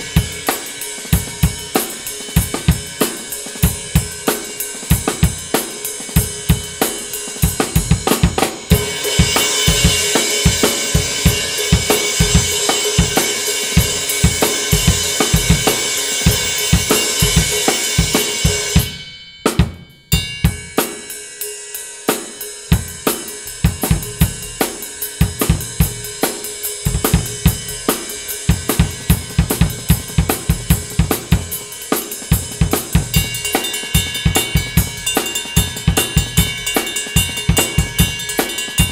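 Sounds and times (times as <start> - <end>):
drum kit played with sticks: 0.0 - 38.9
ride cymbal ping: 0.0 - 38.9.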